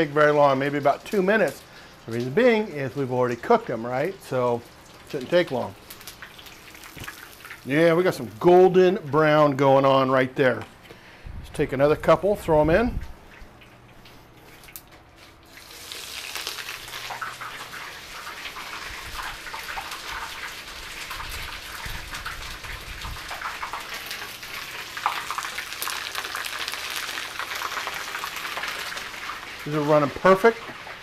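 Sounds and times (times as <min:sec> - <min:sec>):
chicken frying in hot oil: 0:00.0 - 0:08.8, 0:14.6 - 0:31.0.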